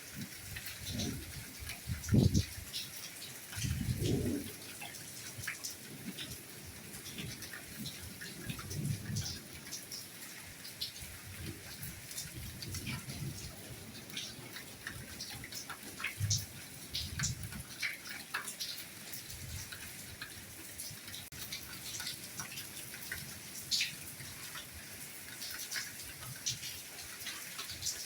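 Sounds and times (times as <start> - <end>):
soft rainfall: 0.0 - 28.0.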